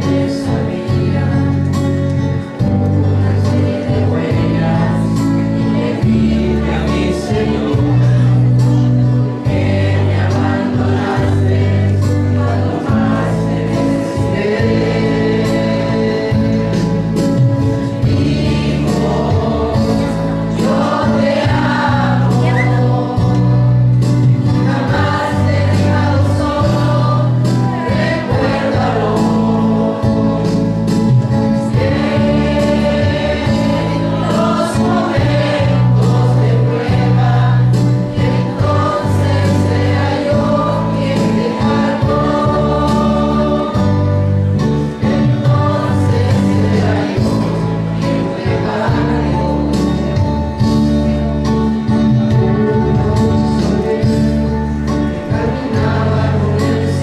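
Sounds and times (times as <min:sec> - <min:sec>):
group singing a hymn: 0:00.0 - 0:57.0
sustained keyboard chords: 0:00.0 - 0:57.0.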